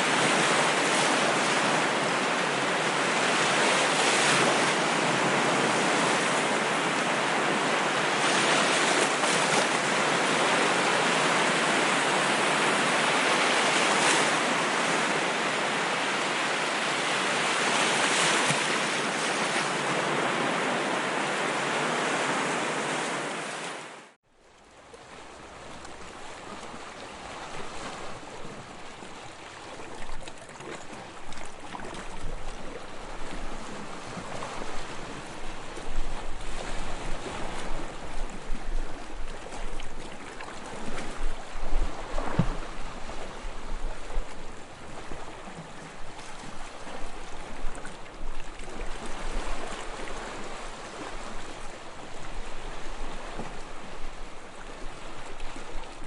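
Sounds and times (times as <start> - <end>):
choppy water with low rumble: 0.0 - 56.0.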